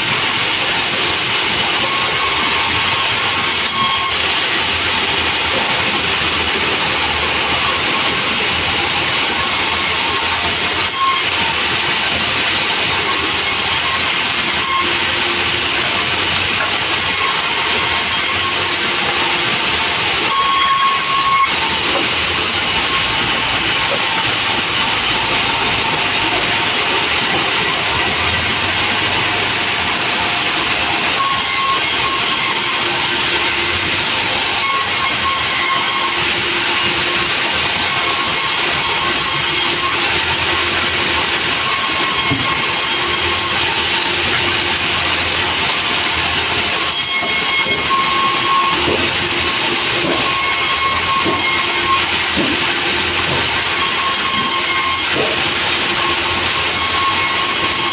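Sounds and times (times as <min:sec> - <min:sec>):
sawmill saw cutting log: 0:00.0 - 0:57.9.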